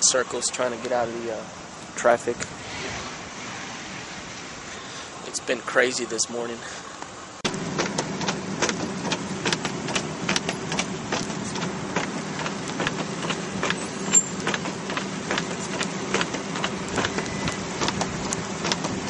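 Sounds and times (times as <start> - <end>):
low car engine hum: 0.6 - 19.0.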